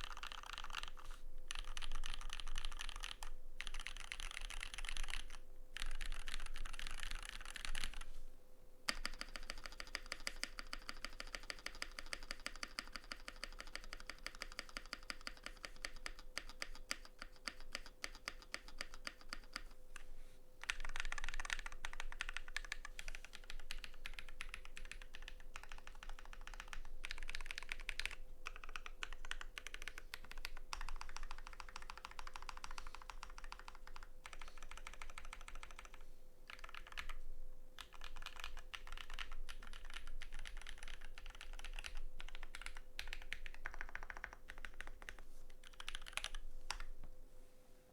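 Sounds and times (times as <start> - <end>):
mechanical keyboard typing: 0.0 - 8.1, 8.9 - 19.8, 20.6 - 37.2, 37.8 - 46.9.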